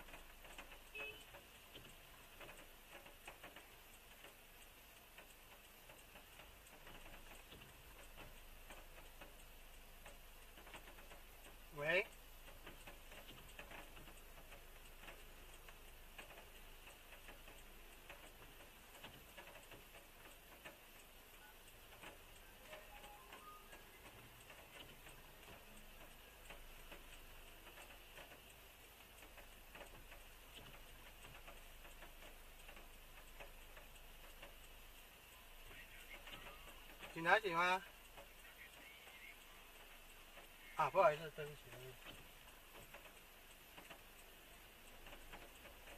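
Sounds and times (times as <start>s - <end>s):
raindrops ticking on car: 0.0s - 45.9s
steady low hiss: 0.0s - 45.9s.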